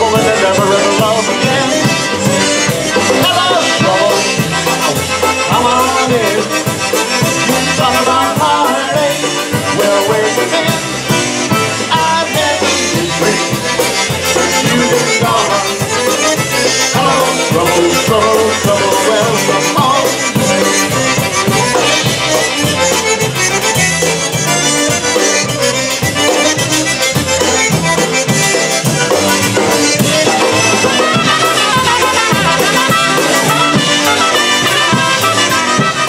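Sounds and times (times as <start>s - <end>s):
accordion: 0.0s - 36.0s
polka band playing: 0.0s - 36.0s.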